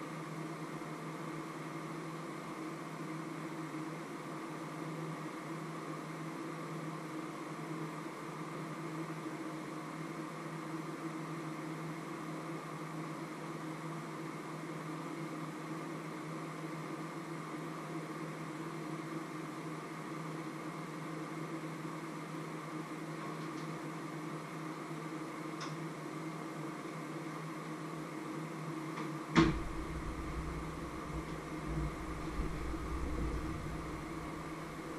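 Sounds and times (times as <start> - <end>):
appliance mechanical hum: 0.0 - 34.9.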